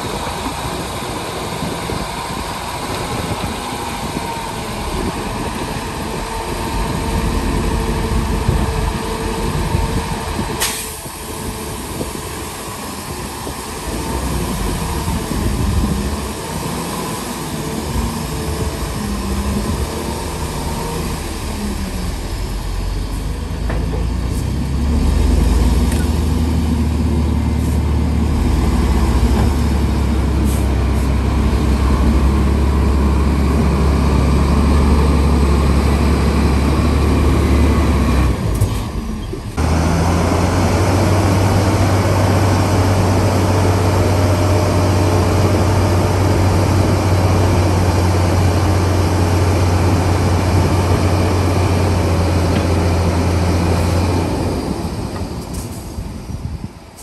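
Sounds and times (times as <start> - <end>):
deep engine rumble: 0.0 - 16.7, 17.6 - 56.9
diesel truck engines running: 0.0 - 57.0.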